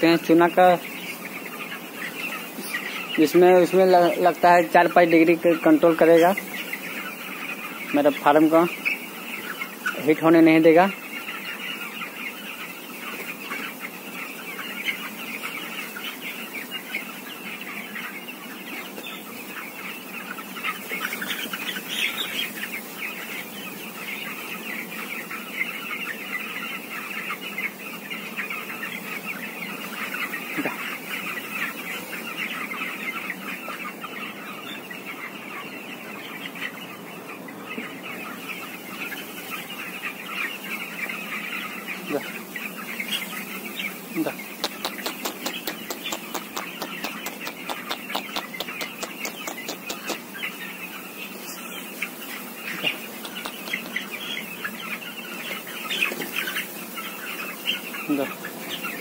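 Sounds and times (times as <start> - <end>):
chicks peeping and chirping: 0.0 - 59.0.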